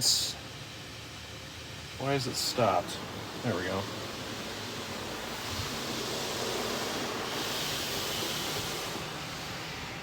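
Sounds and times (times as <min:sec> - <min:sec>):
car wash spraying water: 0:00.0 - 0:10.0.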